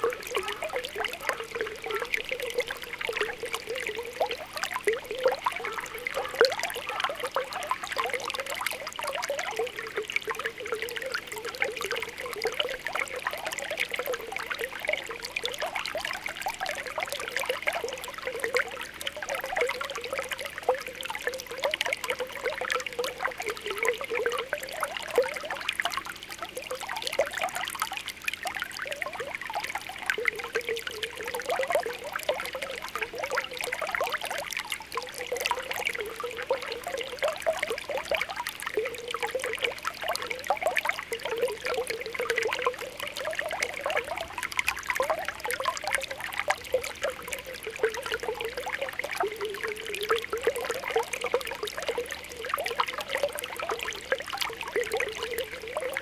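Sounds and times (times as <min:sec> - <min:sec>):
water bubbling and popping: 0:00.0 - 0:56.0
water trickling: 0:00.0 - 0:56.0.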